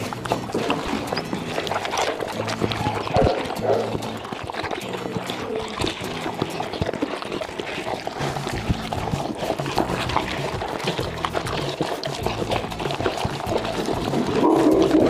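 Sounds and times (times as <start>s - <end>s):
background music: 0.0s - 15.0s
puppies eating wet food: 0.0s - 15.0s.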